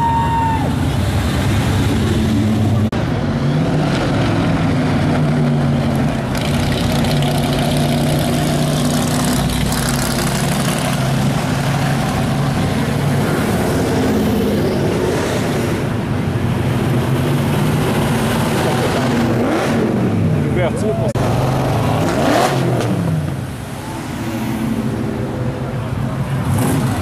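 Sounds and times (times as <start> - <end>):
car engines running: 0.0 - 27.0.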